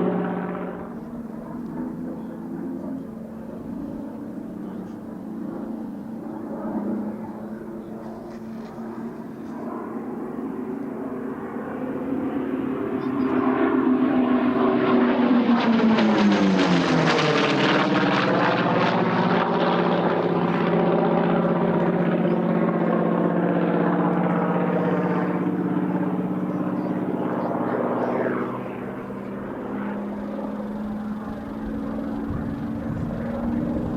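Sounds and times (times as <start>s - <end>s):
propeller plane engine flypast: 0.0s - 33.9s.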